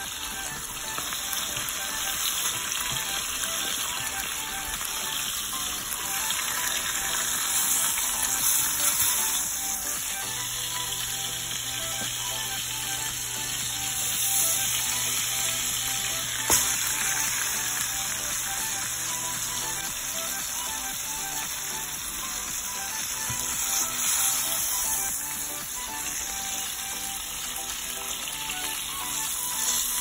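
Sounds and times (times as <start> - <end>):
meat sizzling in hot oil: 0.0 - 30.0.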